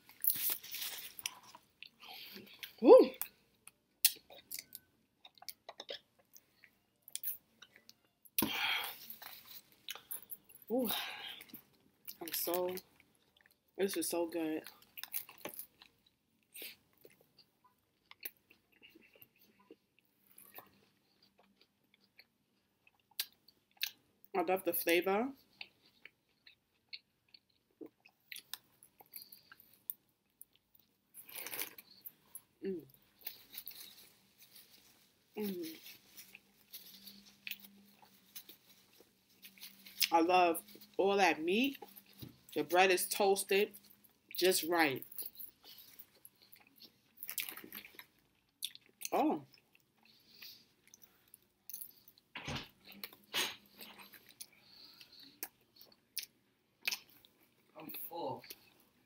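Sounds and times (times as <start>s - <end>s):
person chewing: 0.0s - 13.7s, 14.7s - 24.0s, 25.4s - 41.0s, 45.1s - 57.7s.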